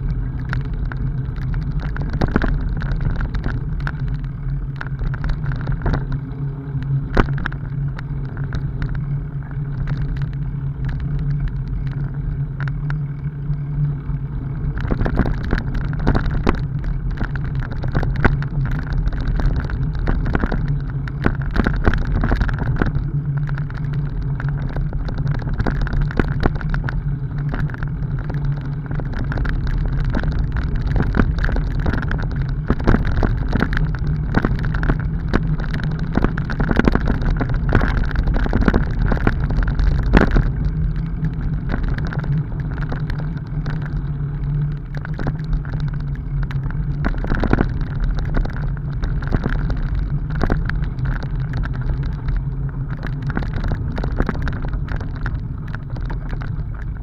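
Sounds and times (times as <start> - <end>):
bicycle tyres rumbling on gravel: 0.0 - 57.0
bike rattling over bumps: 0.0 - 57.0.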